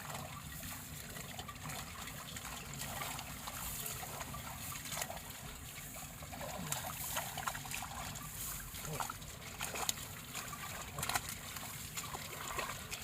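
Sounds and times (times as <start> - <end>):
water trickling through a field: 0.0 - 13.0.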